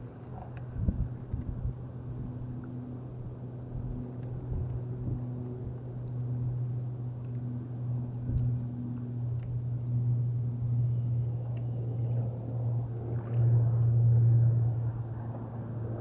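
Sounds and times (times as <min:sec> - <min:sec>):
small boat engine droning: 0:00.0 - 0:16.0.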